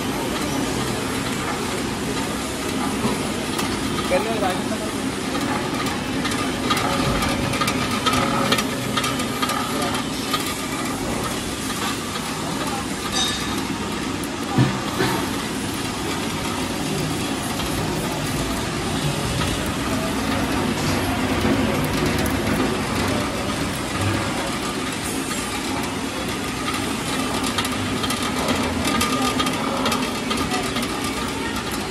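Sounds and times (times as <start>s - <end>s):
oil press machine humming: 0.0s - 31.9s.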